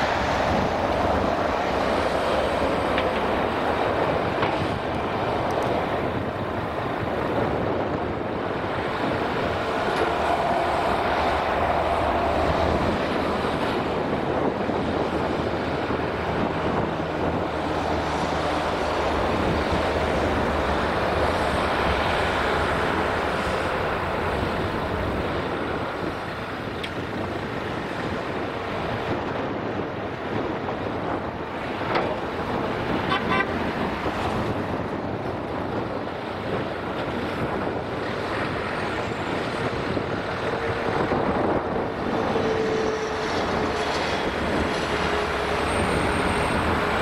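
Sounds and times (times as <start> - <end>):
diesel engines running: 0.0 - 47.0.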